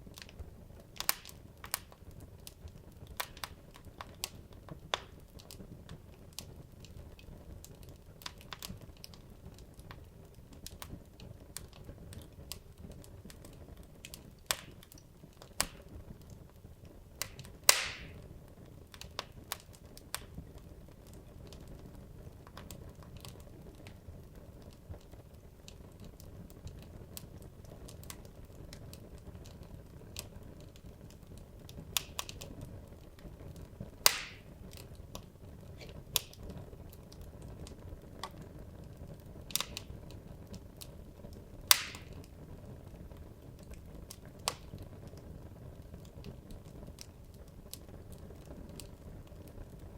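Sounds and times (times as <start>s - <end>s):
fire crackles and pops: 0.0s - 49.9s
low steady rush of fire: 0.0s - 49.9s
wood logs burning in fireplace: 0.0s - 49.9s.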